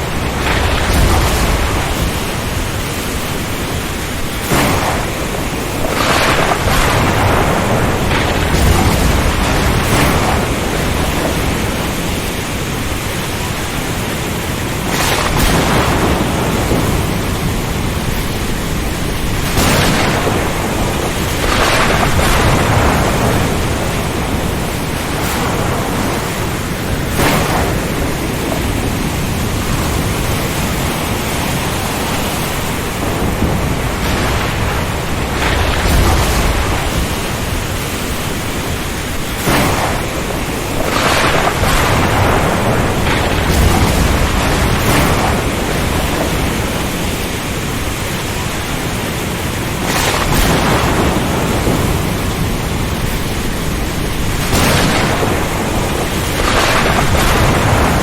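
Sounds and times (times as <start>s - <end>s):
heavy rain and wind hiss: 0.0s - 58.0s
waves crashing: 0.0s - 58.0s.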